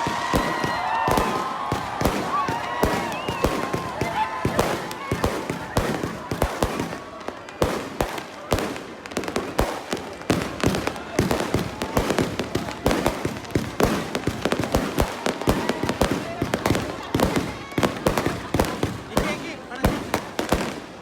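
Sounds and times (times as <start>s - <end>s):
crowd murmur: 0.0s - 21.0s
fireworks banging: 0.0s - 21.0s.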